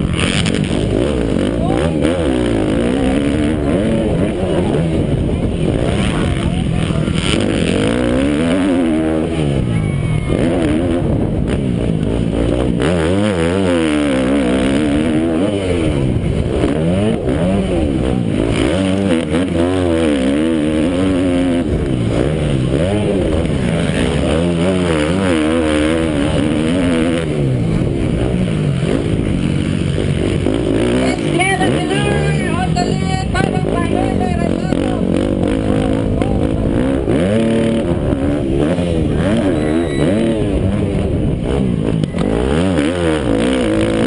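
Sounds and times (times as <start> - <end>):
motocross engines revving: 0.0 - 44.0.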